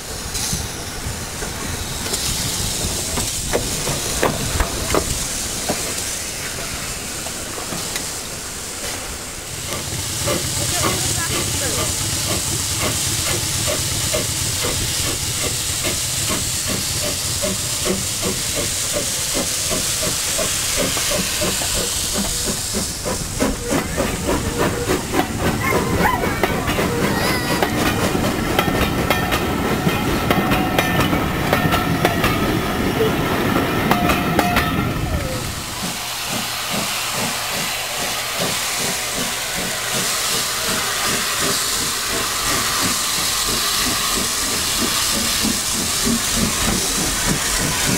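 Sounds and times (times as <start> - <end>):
steam locomotive hissing: 0.0 - 47.9.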